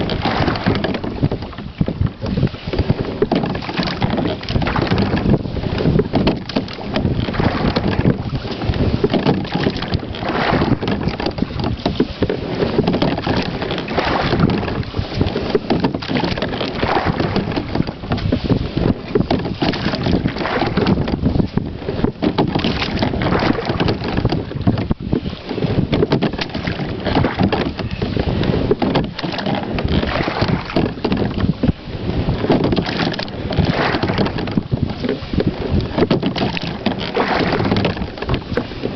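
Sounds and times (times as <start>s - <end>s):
oar blades splashing: 0.0s - 38.9s
wind noise on microphone: 0.0s - 38.9s.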